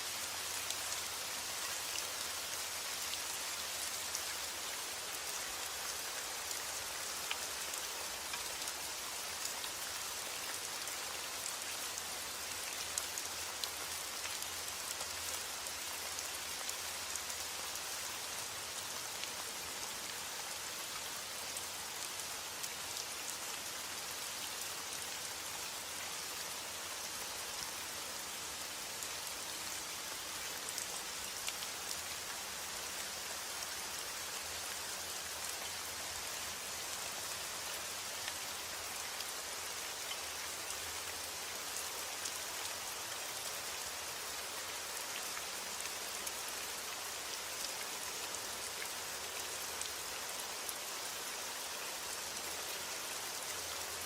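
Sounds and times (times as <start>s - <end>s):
rain falling on a roof: 0.0s - 54.0s.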